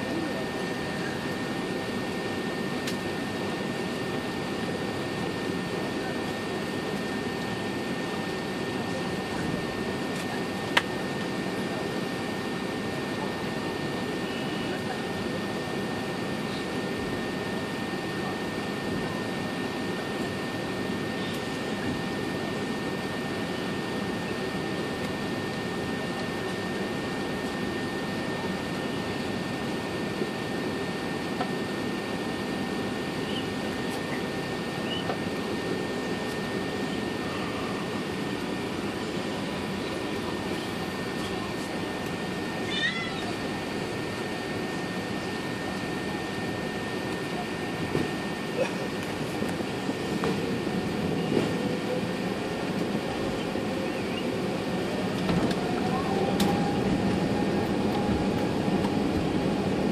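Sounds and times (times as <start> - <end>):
aircraft cabin engine rush: 0.0 - 59.9.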